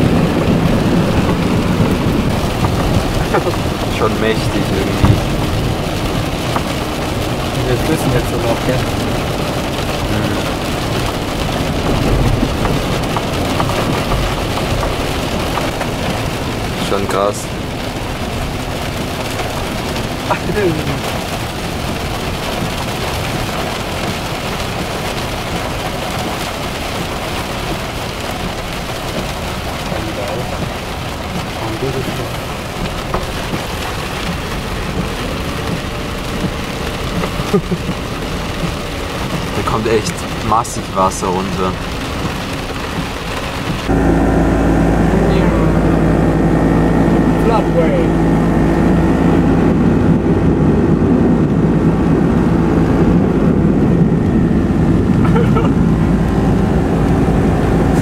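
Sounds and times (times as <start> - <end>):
car driving rumble: 0.0 - 58.0
heavy rain on car roof: 0.0 - 58.0.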